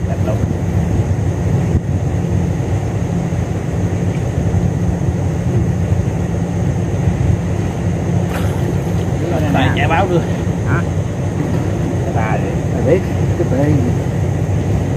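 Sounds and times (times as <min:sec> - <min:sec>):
boat engine drone: 0:00.0 - 0:14.9.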